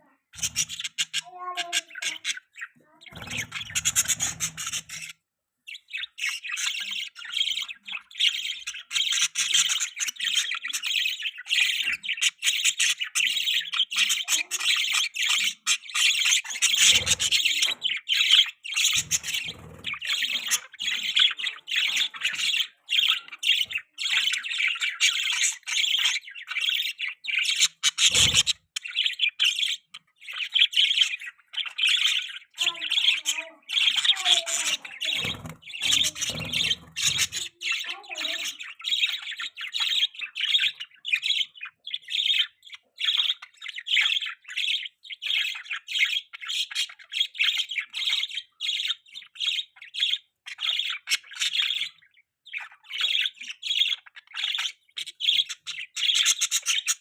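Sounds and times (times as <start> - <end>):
budgerigars chattering and chirping: 0.3 - 57.0.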